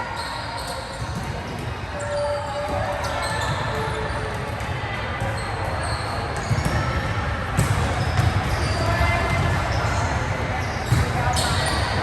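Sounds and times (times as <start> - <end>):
rumble of players and spectators: 0.0 - 12.0
sneaker squeaks on court: 0.1 - 4.6, 5.2 - 7.0, 7.6 - 12.0.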